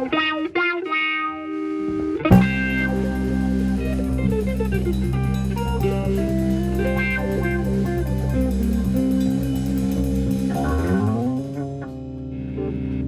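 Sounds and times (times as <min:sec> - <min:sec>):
bass guitar: 0:00.0 - 0:13.0
electric guitar: 0:00.0 - 0:13.0
rising pitch slide: 0:01.5 - 0:12.0
drum kit: 0:01.6 - 0:12.2.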